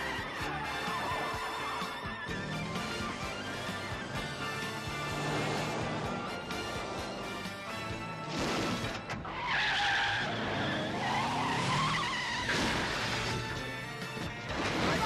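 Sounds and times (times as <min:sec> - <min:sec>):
car tyres squealing: 0:00.0 - 0:13.6
film score music: 0:00.0 - 0:15.0.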